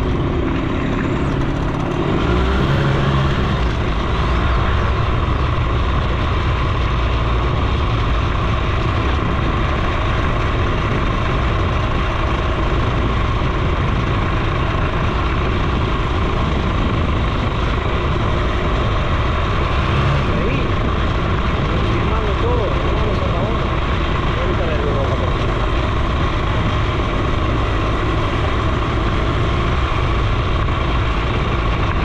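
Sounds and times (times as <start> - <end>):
moped engine running: 0.0 - 32.0
wind and tyre noise: 0.0 - 32.0.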